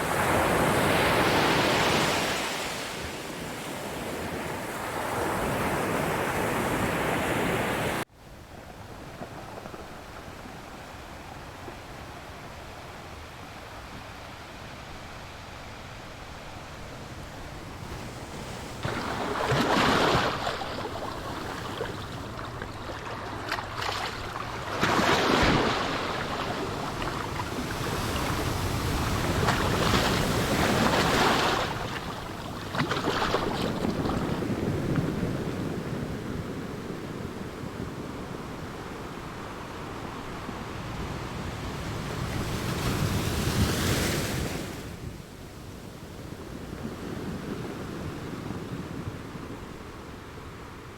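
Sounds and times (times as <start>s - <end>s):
ocean waves breaking on shore: 0.0s - 50.9s.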